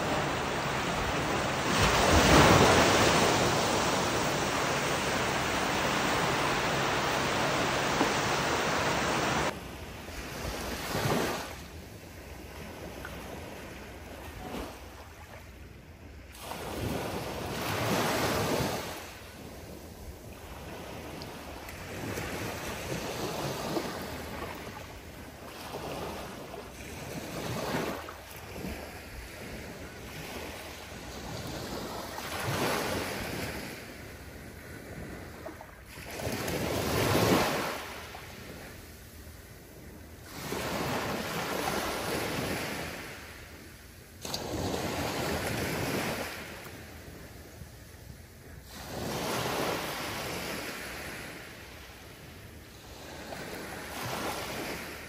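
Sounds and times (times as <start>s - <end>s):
small waves breaking on sand: 0.0s - 15.6s, 16.2s - 47.9s, 48.5s - 55.0s.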